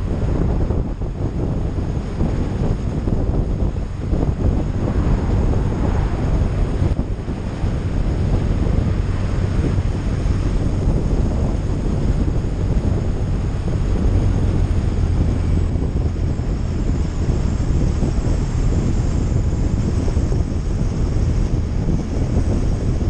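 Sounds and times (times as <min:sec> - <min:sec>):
road noise: 0:00.0 - 0:23.0
wind on microphone: 0:00.0 - 0:23.0.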